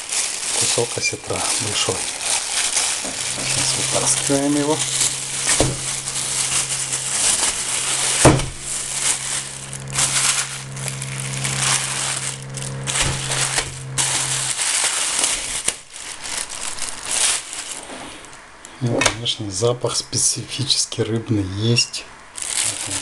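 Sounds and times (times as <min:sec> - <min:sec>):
plastic bag crinkling: 0:00.0 - 0:18.4, 0:22.3 - 0:23.0
steady low hum: 0:00.0 - 0:23.0.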